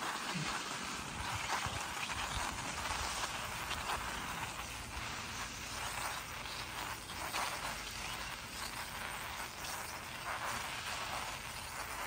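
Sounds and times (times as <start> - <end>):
bicycle tyres crunching on snow: 0.0 - 12.0.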